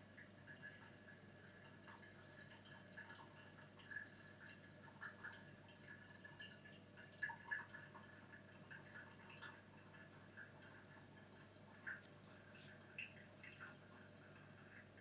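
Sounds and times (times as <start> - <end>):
coffee dripping into glass: 0.1 - 15.0
dripper clicks: 1.8 - 15.0.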